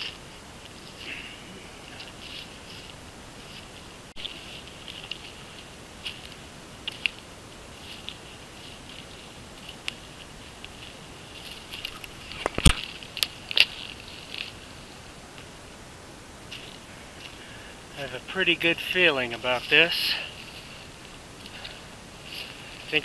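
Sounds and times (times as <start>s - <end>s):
footsteps crunching on dry twigs: 0.0s - 15.6s, 16.4s - 23.0s.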